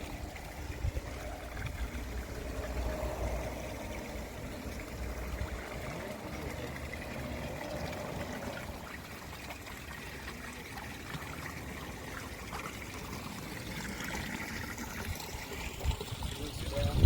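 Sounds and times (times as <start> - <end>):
water trickling over rock: 0.0 - 17.0.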